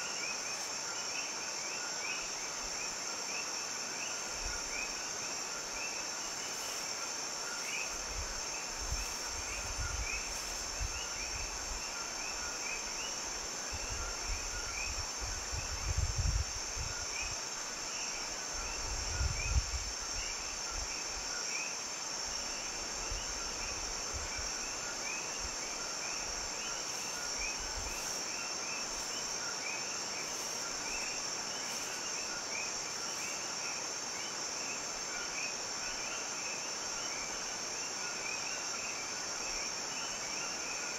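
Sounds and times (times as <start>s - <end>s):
insects chirping rapidly: 0.0s - 40.9s
insects droning: 0.0s - 40.9s.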